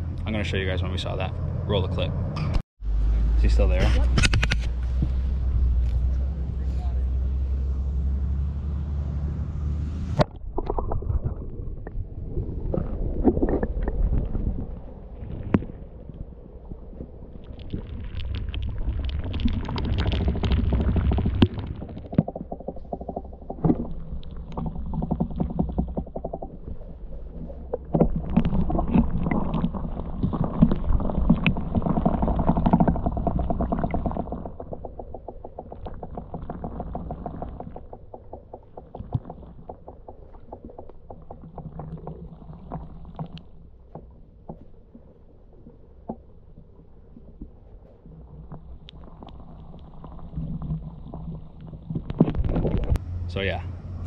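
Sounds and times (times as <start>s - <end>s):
underwater rumble: 0.0s - 54.0s.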